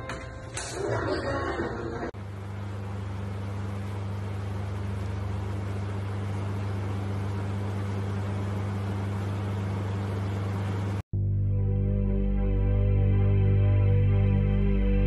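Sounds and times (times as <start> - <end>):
low hum: 1.1 - 15.0.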